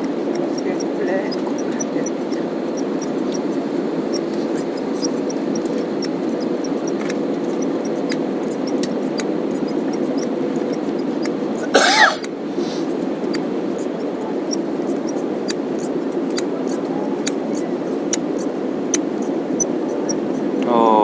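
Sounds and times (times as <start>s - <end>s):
airliner cabin engine rush: 0.0s - 21.0s
faint steady hum: 0.0s - 21.0s.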